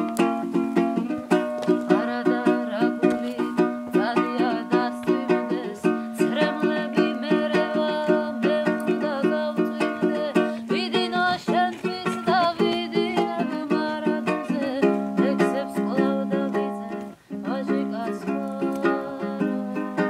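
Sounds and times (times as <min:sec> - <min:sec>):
lute strummed: 0:00.0 - 0:20.0
woman singing: 0:00.0 - 0:20.0.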